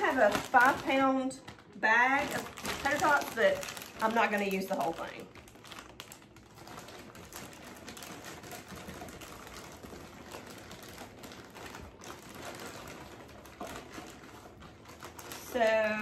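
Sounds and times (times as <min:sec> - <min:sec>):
frozen pieces pouring into a dish: 0:00.0 - 0:16.0.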